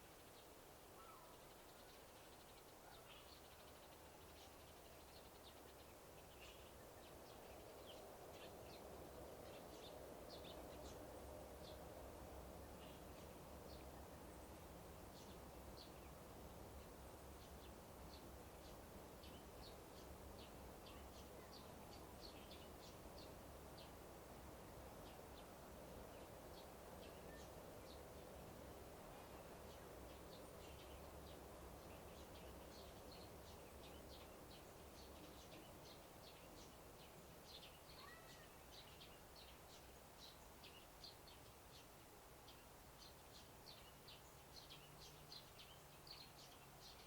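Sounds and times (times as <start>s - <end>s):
birds chirping: 0.0s - 47.0s
outdoor background noise: 0.0s - 47.0s.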